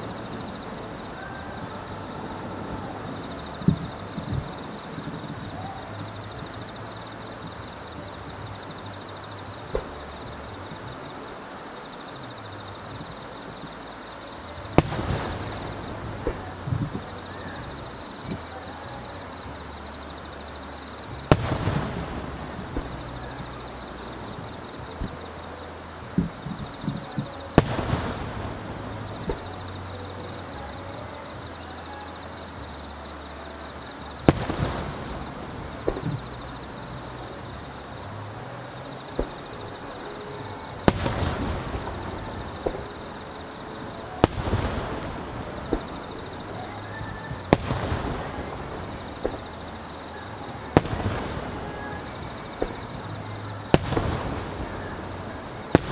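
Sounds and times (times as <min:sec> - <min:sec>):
firework booms: 0:00.0 - 0:19.7, 0:21.0 - 0:31.6, 0:34.1 - 0:55.9
firework crackling: 0:00.0 - 0:55.9
insect chirring: 0:00.0 - 0:55.9.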